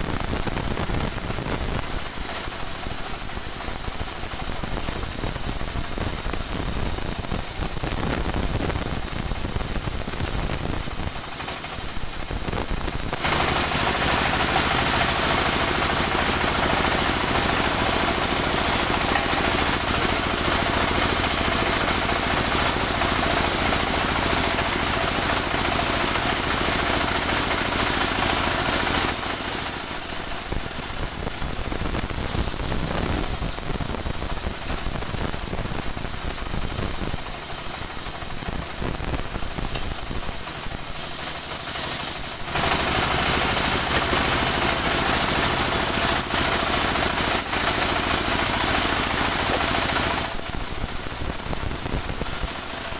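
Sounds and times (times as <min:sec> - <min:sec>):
band sawmill running with whine: 0:00.0 - 0:52.9.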